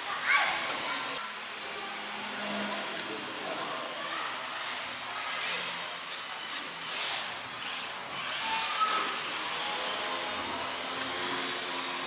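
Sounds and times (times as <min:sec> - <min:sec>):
model airplane motors whining: 0:00.0 - 0:12.0.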